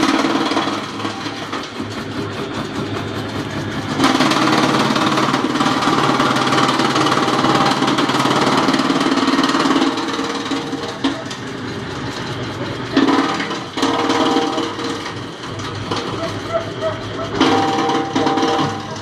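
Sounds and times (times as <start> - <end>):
wood chipper running: 0.0 - 19.0.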